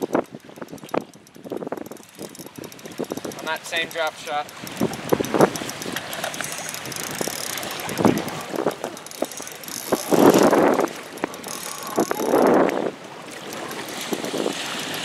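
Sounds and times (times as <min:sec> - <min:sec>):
fishing reel drag buzzing: 0:00.0 - 0:15.0
reel clicks: 0:00.0 - 0:15.0.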